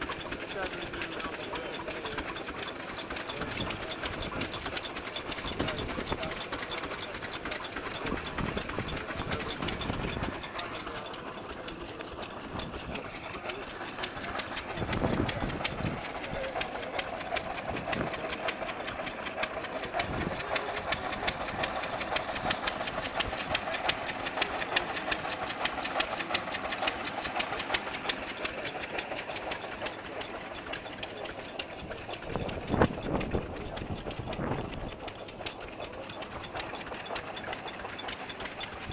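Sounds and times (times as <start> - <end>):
stationary engine knocking: 0.0 - 38.9.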